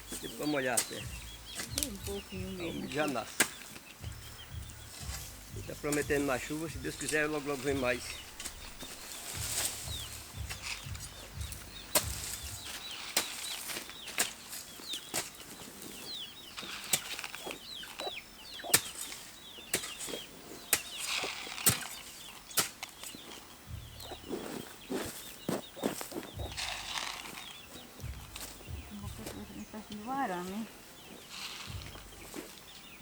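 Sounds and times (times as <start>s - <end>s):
hoe striking soil: 0.0s - 15.9s, 16.5s - 30.1s, 31.1s - 33.0s
small birds chirping: 0.0s - 33.0s.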